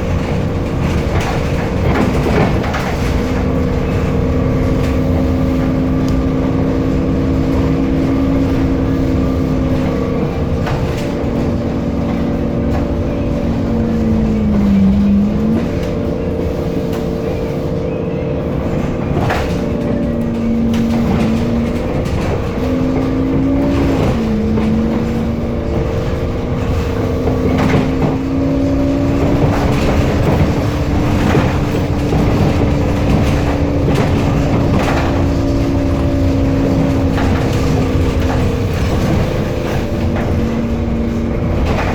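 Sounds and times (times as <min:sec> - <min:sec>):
bus body rattling: 0:00.0 - 0:41.9
bus engine whine: 0:00.0 - 0:41.9
low rumble: 0:00.0 - 0:41.9.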